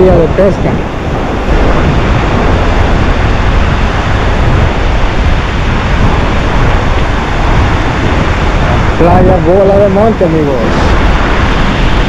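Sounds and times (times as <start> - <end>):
surf washing on beach: 0.0 - 12.0
wind buffeting microphone: 0.0 - 12.0.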